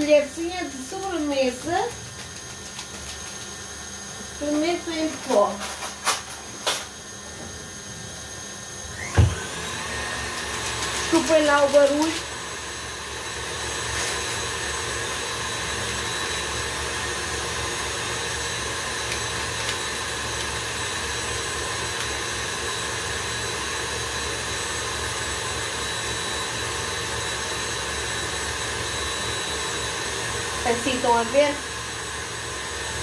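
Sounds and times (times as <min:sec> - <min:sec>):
electric stand mixer whirring: 0:00.0 - 0:33.0.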